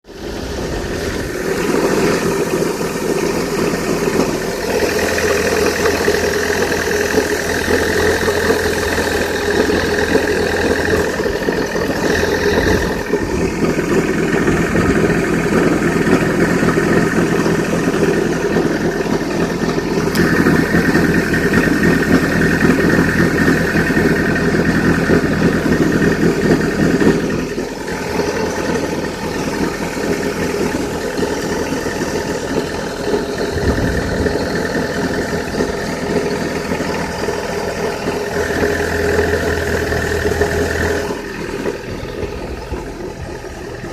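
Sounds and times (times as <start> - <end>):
car engine idling: 0.0 - 43.9
high-pitched engine noise: 0.0 - 43.9.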